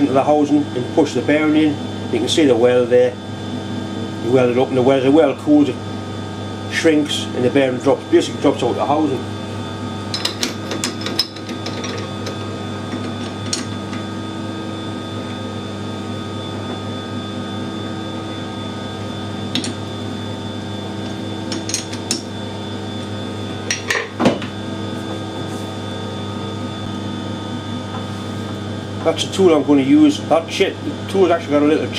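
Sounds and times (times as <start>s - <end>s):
steady machine hum: 0.0s - 31.9s.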